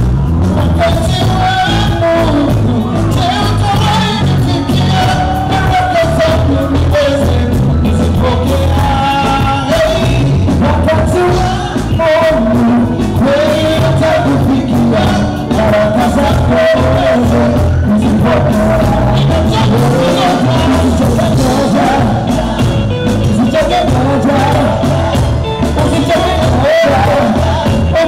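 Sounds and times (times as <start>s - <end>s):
backing singers: 0.0s - 28.0s
band with drums bass and keyboard: 0.0s - 28.0s
men singing lead vocals: 0.3s - 28.0s.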